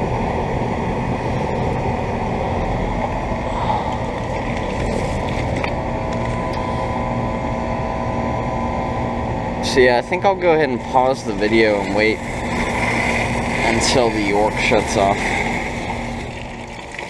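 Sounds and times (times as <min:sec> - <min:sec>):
air conditioner fan rush: 0:00.0 - 0:17.0
steady hum: 0:00.0 - 0:17.0.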